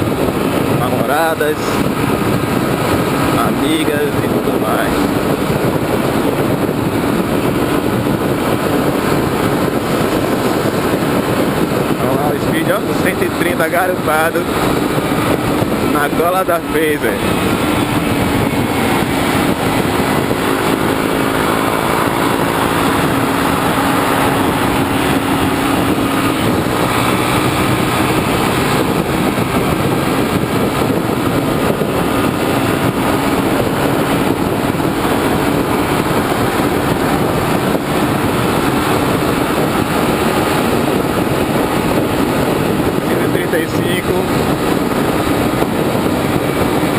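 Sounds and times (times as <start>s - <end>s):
motorcycle engine running: 0.0s - 46.9s
wind rush over microphone: 0.0s - 46.9s.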